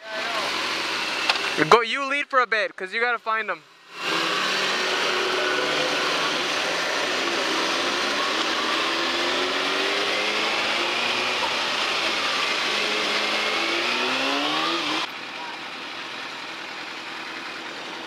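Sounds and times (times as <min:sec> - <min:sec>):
motorcycle engine accelerating: 0:00.0 - 0:01.7, 0:03.9 - 0:18.0.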